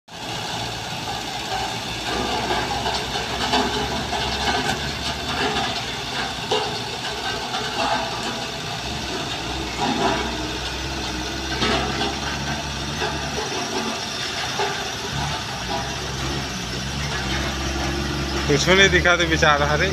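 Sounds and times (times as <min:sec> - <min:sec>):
road roller engine rumbling: 0:00.1 - 0:19.9.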